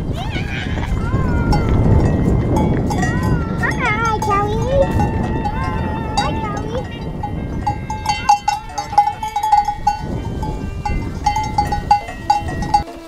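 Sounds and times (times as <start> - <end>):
cowbells clanging: 0.0 - 13.0.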